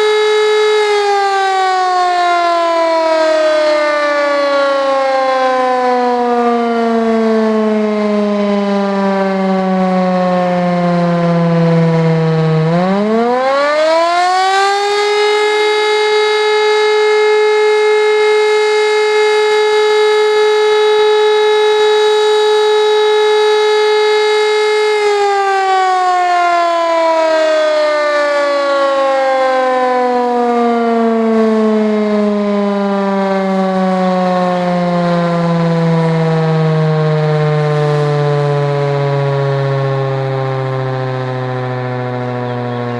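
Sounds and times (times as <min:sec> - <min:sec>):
motor siren wailing: 0:00.0 - 0:42.9.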